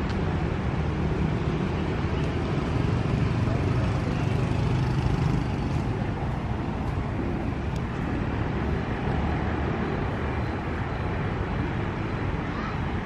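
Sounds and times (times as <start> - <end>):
street background rumble and hiss: 0.0 - 13.0.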